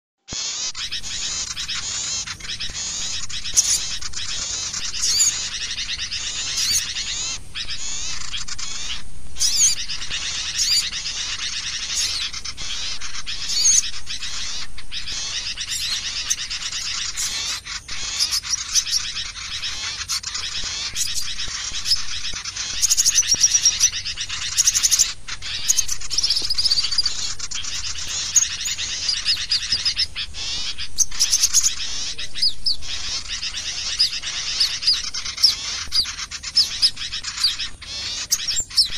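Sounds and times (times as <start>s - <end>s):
small songbirds chattering: 0.2s - 38.9s.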